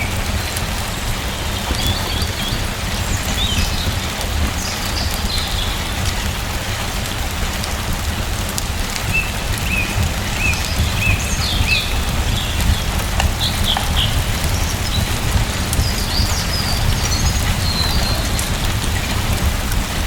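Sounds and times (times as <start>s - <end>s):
small birds chirping: 0.0s - 6.8s, 9.0s - 19.7s
rain pattering: 0.0s - 20.0s.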